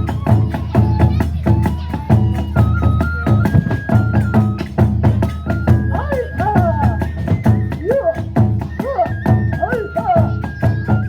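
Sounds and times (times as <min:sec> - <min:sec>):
bamboo flute melody: 0:00.0 - 0:11.0
drums and hand cymbals: 0:00.0 - 0:11.0.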